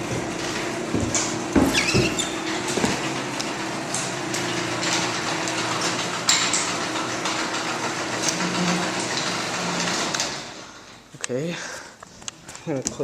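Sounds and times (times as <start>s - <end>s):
door rollers clattering in track: 0.0s - 11.1s
garage door opener humming: 0.0s - 11.1s.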